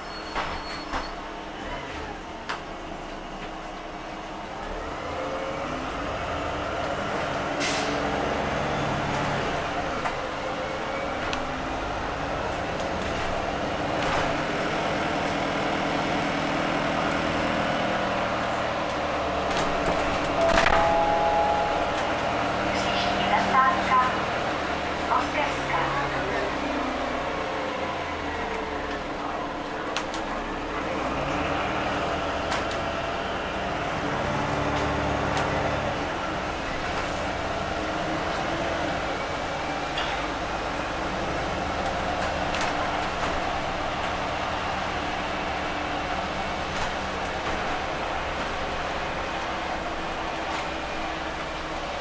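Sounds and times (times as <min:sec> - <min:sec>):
bus engine running: 0:00.0 - 0:52.0
tyre and road noise: 0:00.0 - 0:52.0.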